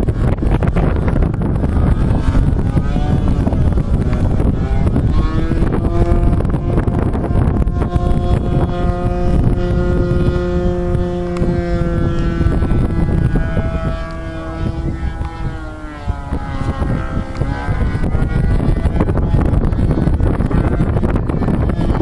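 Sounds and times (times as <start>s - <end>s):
model aircraft engine: 0.0s - 22.0s
wind buffeting microphone: 0.0s - 22.0s.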